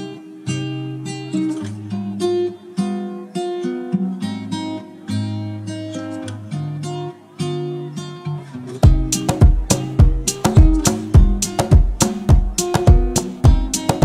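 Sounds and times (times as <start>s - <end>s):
acoustic guitar plucking: 0.0s - 14.0s.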